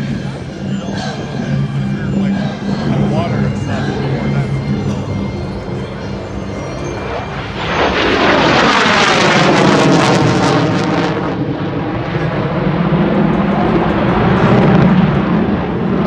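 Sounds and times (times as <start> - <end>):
jet passing low: 0.0 - 16.0.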